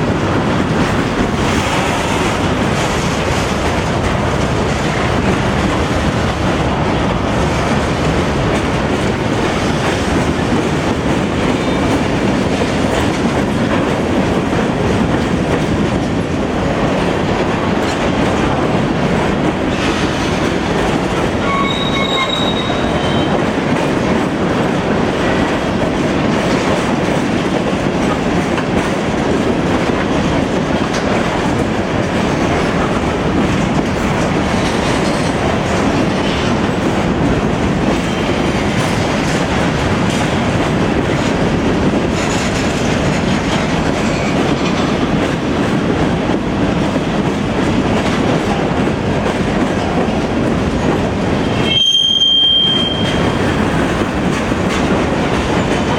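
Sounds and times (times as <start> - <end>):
train wheels clattering over rail joints: 0.0 - 55.9.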